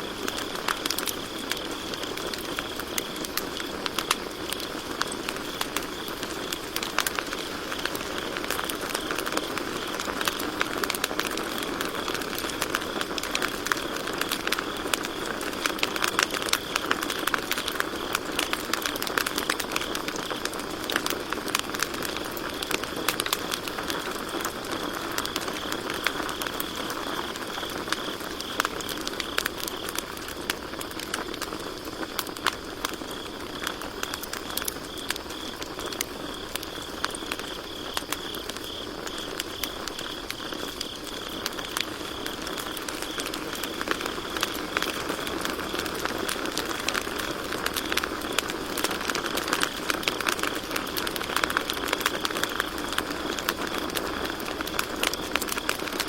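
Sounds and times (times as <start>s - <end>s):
campfire crackling: 0.0s - 56.0s
crickets trilling: 0.0s - 56.0s.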